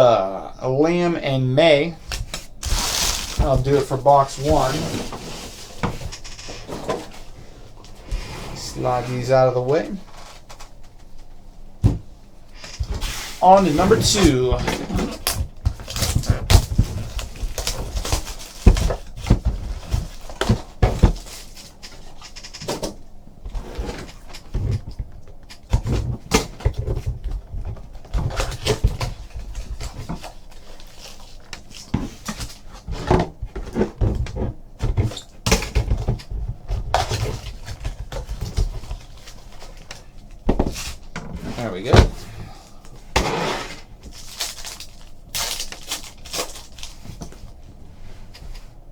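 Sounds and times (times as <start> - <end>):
plastic wrap and cardboard rustling: 1.9 - 48.9.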